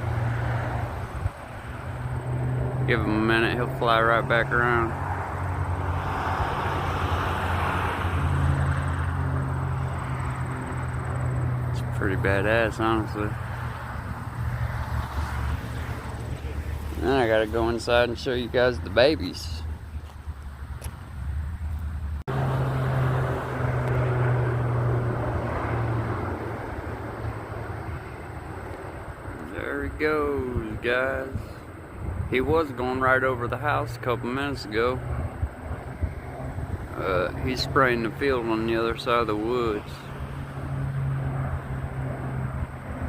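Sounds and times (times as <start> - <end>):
airplane engine droning: 0.0 - 19.9, 22.3 - 43.0.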